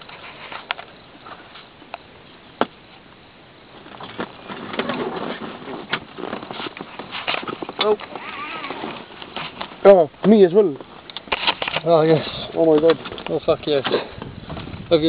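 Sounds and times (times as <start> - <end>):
rustling handling noise: 2.8 - 14.9.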